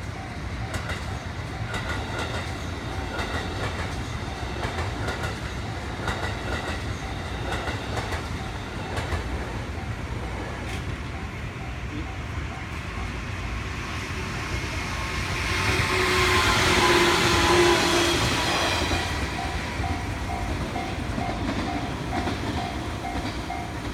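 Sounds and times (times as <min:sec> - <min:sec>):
crossing warning bell ringing: 0:00.0 - 0:13.7, 0:15.6 - 0:23.9
electric train passing: 0:00.0 - 0:23.9.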